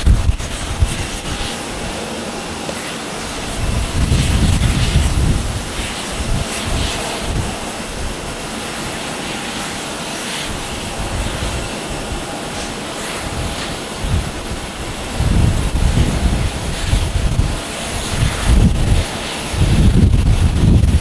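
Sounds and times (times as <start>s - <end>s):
jet engine rush and whine: 0.0s - 21.0s.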